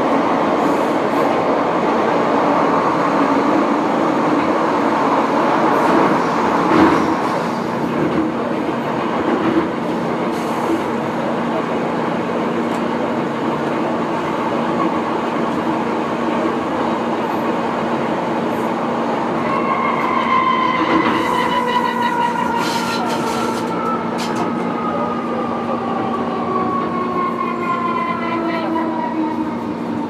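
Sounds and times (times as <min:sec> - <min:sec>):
train rumble and wheel noise: 0:00.0 - 0:30.0.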